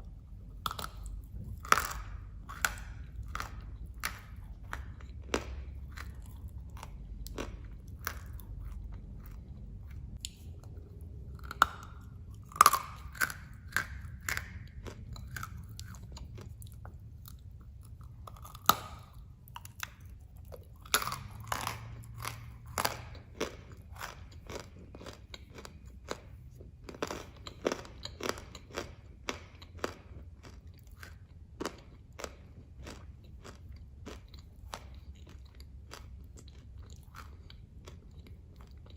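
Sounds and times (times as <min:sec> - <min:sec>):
clay being chewed crunching: 0:00.0 - 0:38.9.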